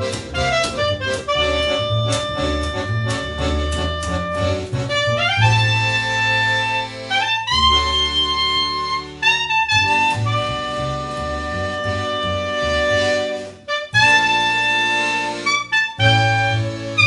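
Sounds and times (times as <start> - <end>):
accordion runs: 0.0 - 17.0
bass line: 0.0 - 17.0.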